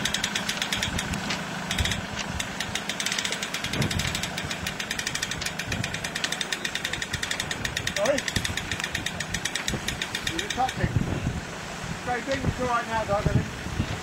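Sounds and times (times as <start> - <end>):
engine running with fast clatter: 0.0 - 14.0.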